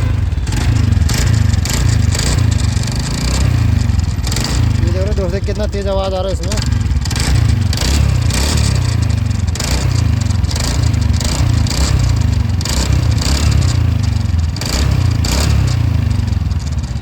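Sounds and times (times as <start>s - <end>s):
scooter engine running loudly: 0.0s - 17.0s.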